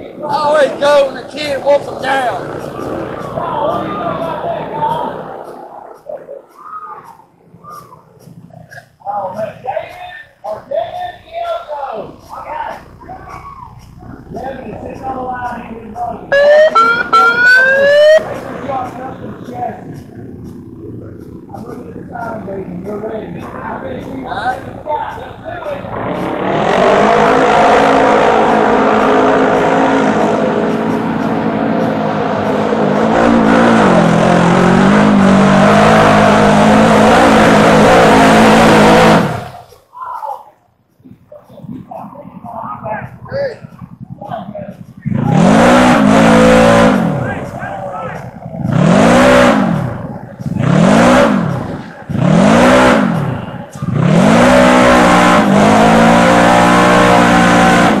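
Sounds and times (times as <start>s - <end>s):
engine running at high revs: 0.0s - 6.4s, 10.7s - 39.7s, 41.1s - 58.0s.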